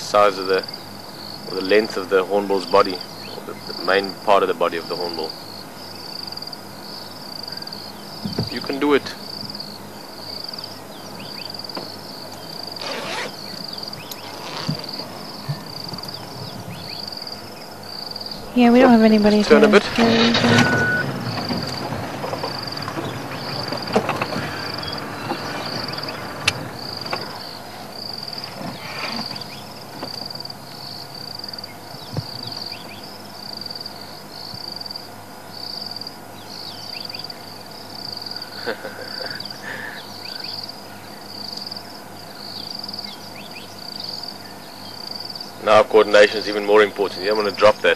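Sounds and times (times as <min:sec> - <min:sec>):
insect trilling: 0:00.0 - 0:47.9.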